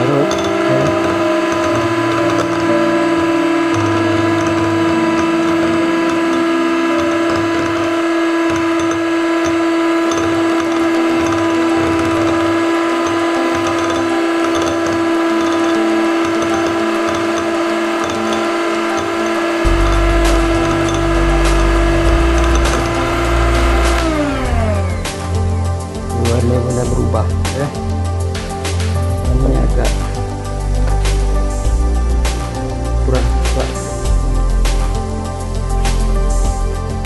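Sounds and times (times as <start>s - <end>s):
electric mixer whining: 0.0s - 37.0s.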